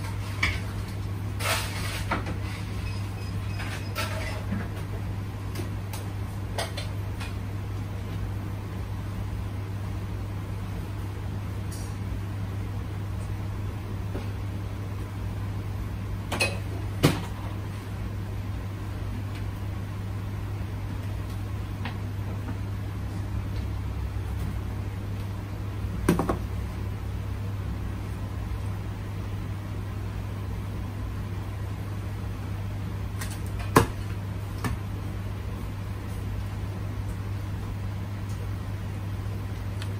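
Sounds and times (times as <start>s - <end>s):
steady low machine hum: 0.0s - 39.9s.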